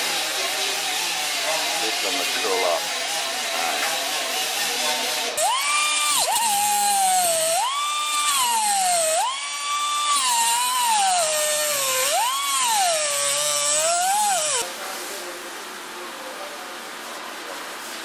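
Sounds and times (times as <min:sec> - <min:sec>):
high-speed power tool whining: 0:00.0 - 0:14.6.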